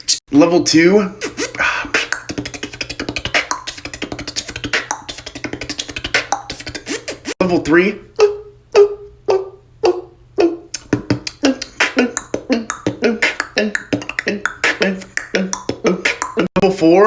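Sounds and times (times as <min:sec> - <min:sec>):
beatboxing: 0:01.1 - 0:07.6, 0:08.2 - 0:17.0.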